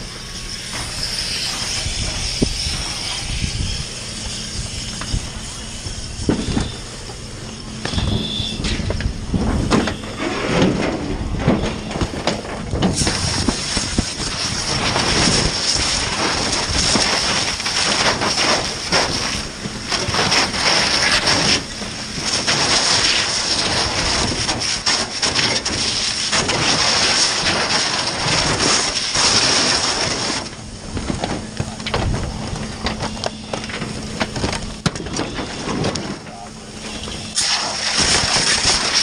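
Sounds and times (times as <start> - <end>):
hose spraying water: 0.0 - 10.5, 12.6 - 31.6, 35.4 - 39.0
steam boiling off flames: 0.0 - 39.0.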